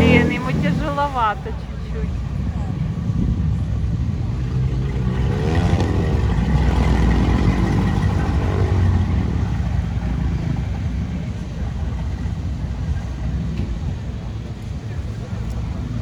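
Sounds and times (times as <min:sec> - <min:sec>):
off-road engine revving: 0:00.0 - 0:16.0.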